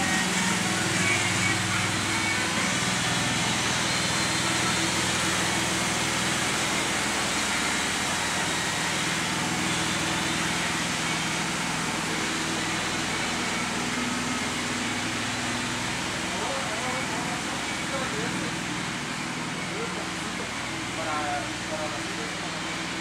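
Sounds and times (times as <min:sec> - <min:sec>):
low machinery hum: 0:00.0 - 0:23.0
machinery hissing: 0:00.0 - 0:23.0.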